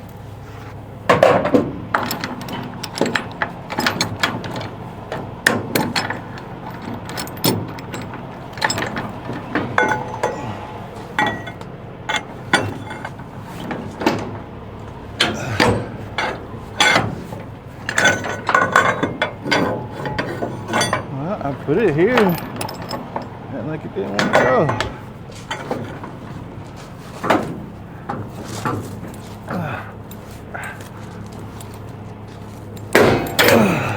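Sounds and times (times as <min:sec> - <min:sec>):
metal chains and ratchets clinking: 0:01.1 - 0:33.9.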